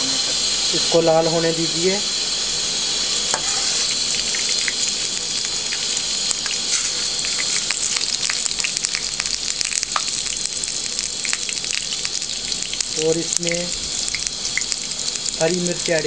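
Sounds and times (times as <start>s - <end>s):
seeds sizzling in hot oil: 0.0s - 16.0s
oil crackling and popping: 2.2s - 16.0s.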